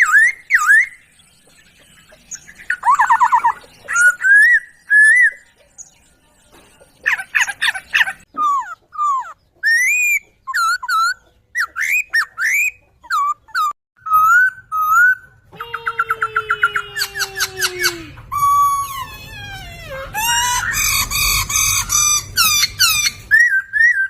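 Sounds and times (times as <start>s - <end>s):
songbird singing whistled phrases: 0.0s - 19.3s, 20.2s - 24.0s.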